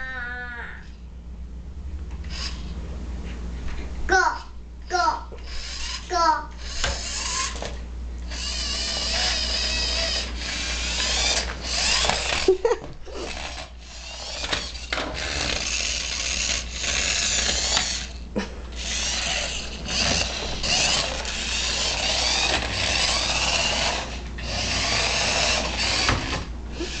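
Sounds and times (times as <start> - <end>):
toy car electric motor whirring: 2.2 - 2.7, 5.4 - 27.0.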